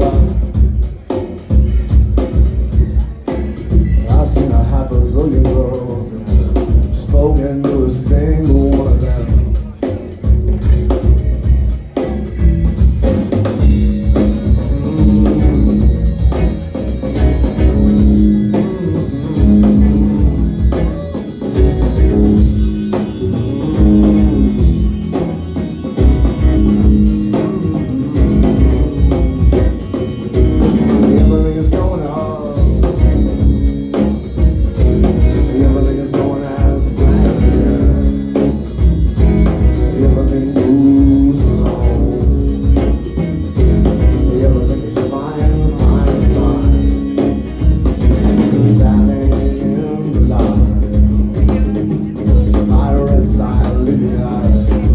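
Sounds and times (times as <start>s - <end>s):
rock band playing live: 0.0s - 54.9s
upright bass line: 0.0s - 54.9s.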